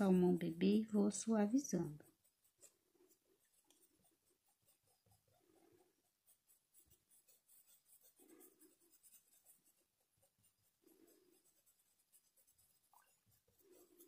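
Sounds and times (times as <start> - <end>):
paintbrush rubbing on cloth: 0.0 - 14.0.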